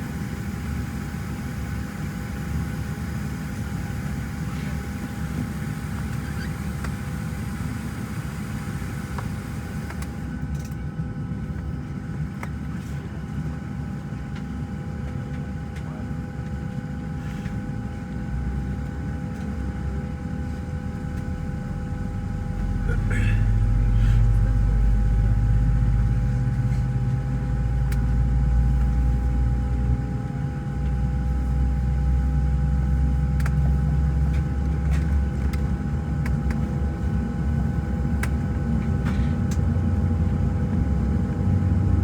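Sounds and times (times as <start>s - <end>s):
low cabin rumble: 0.0s - 42.0s.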